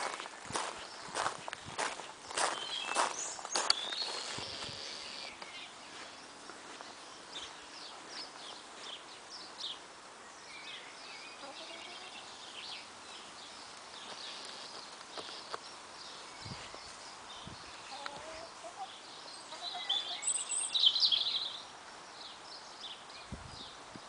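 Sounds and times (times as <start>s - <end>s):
wild birds chirping and singing: 0.0s - 23.9s
faint steady outdoor hiss: 0.0s - 24.0s.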